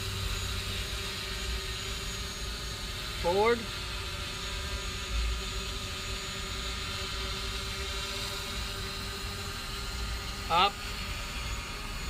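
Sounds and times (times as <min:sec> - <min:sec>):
outdoor background hum: 0:00.0 - 0:12.0.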